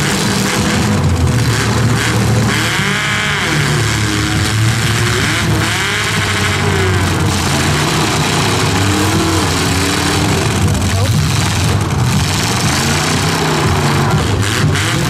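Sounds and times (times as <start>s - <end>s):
car engines revving: 0.0s - 15.0s
steady low drone: 0.0s - 15.0s.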